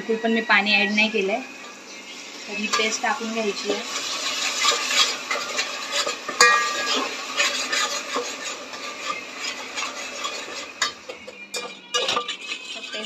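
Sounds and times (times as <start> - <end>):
onion paste sizzling: 0.0 - 13.0
spoon stirring and scraping: 1.6 - 13.0.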